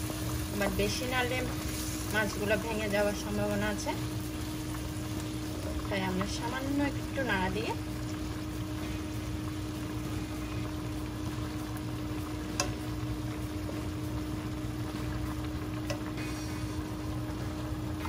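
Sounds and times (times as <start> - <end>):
gravy simmering and bubbling: 0.0 - 18.0.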